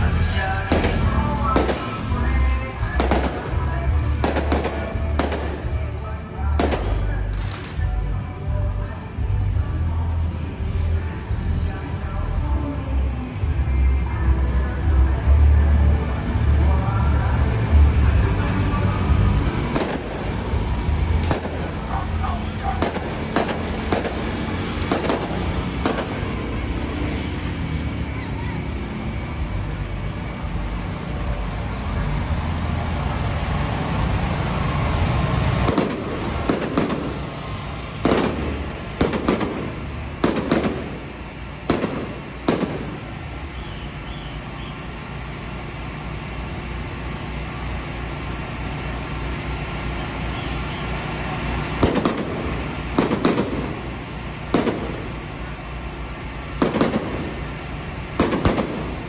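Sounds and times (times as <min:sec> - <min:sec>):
firecrackers banging: 0:00.0 - 0:08.8, 0:17.6 - 0:59.0
vehicle engine rumble: 0:00.0 - 0:59.0.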